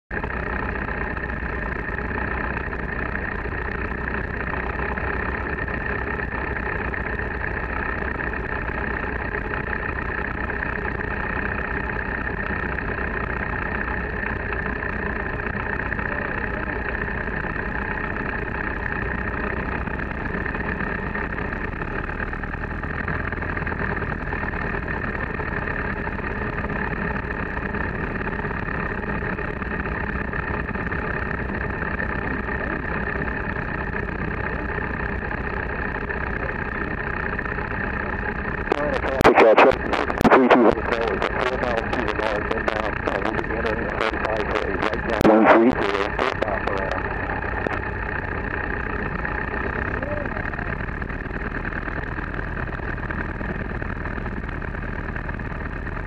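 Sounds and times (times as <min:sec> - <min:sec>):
light aircraft engine droning: 0:00.1 - 0:56.0.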